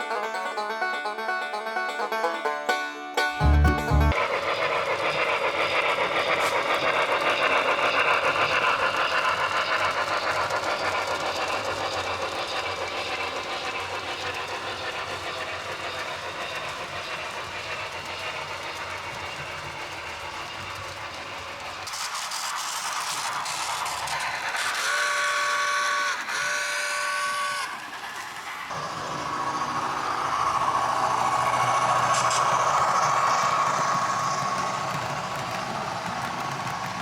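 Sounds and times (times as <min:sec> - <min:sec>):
model train rolling and clattering: 0:00.0 - 0:37.0.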